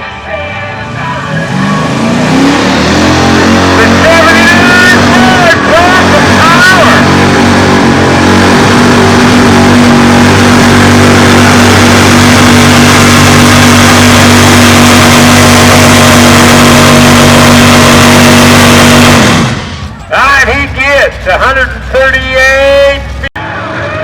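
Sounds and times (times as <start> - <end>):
truck engine at high revs: 0.0 - 24.0.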